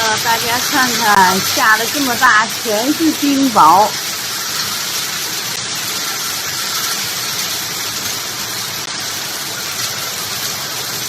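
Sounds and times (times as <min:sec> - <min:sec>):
hail and heavy rain: 0:00.0 - 0:11.0.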